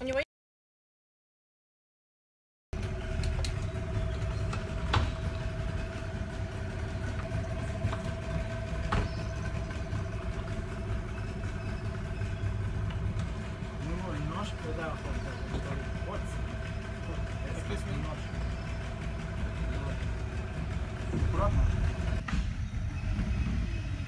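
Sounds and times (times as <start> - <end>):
small boat motor running: 2.8 - 24.0.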